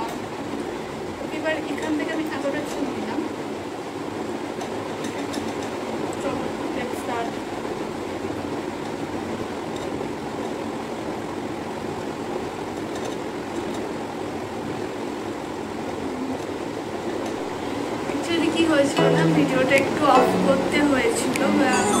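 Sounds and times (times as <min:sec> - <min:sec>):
low background rush: 0:00.0 - 0:22.0.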